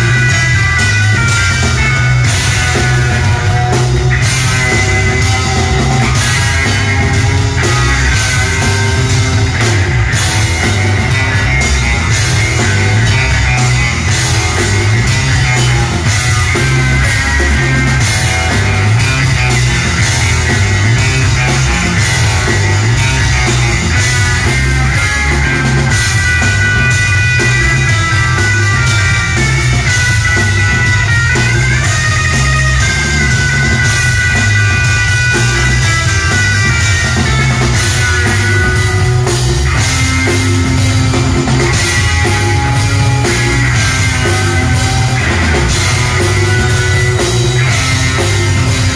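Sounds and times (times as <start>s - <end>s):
drum kit beat: 0.0s - 48.9s
electric guitars: 0.0s - 48.9s
sliding guitar melody: 0.0s - 48.9s.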